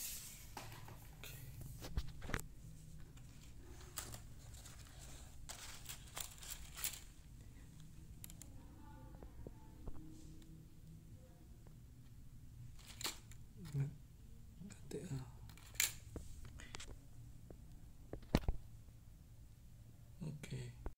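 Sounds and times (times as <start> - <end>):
low room hum: 0.0 - 20.9.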